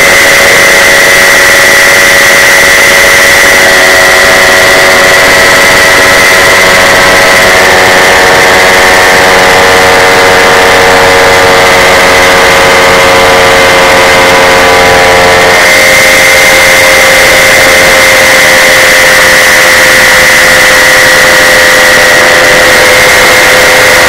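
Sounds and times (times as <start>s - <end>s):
paramotor engine running: 0.0s - 24.0s.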